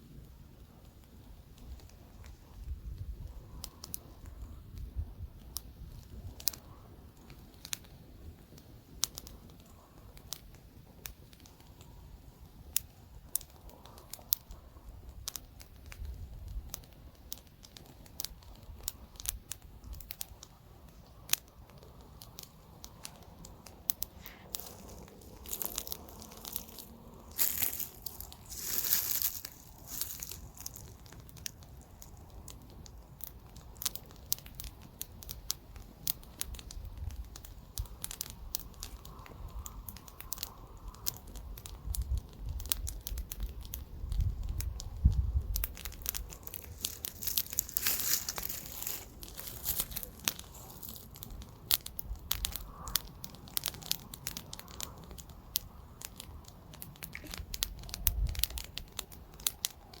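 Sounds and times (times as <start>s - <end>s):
campfire crackling and popping: 0.0s - 60.0s
low wind gusts: 0.0s - 60.0s.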